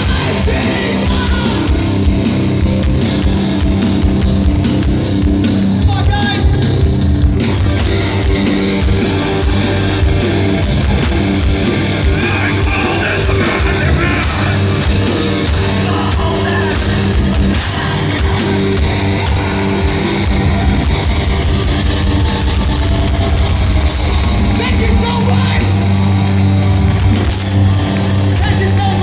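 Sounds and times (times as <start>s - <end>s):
bass guitar: 0.0s - 29.0s
distorted electric guitars: 0.0s - 29.0s
drums with cymbal hits: 0.0s - 29.0s.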